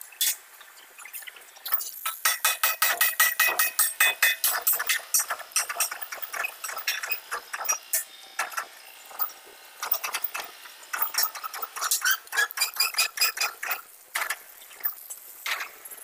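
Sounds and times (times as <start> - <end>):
arc welding crackle: 0.0 - 16.0.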